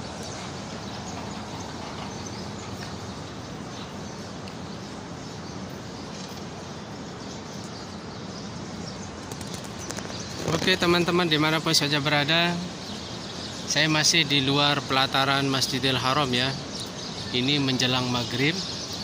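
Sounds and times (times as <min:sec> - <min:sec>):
city street noise: 0:00.0 - 0:19.0.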